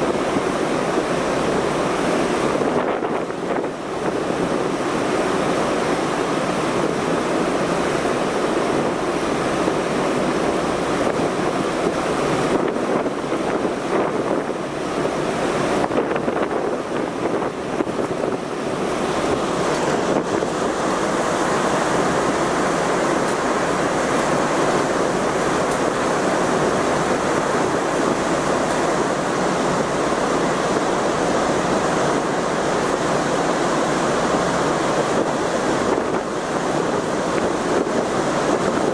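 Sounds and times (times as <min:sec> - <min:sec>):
sea water rushing: 0:00.0 - 0:38.9
wind over microphone: 0:00.0 - 0:38.9.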